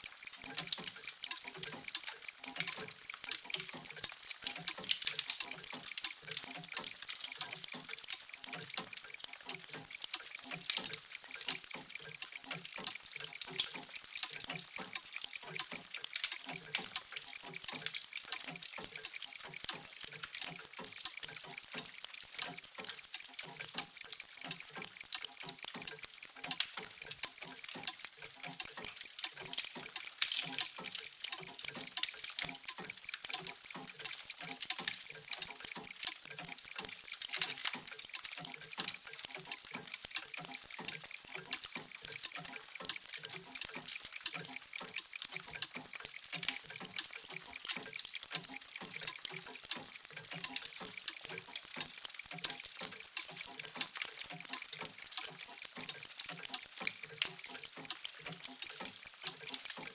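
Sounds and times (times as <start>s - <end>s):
mechanical clocks ticking: 0.0s - 59.9s.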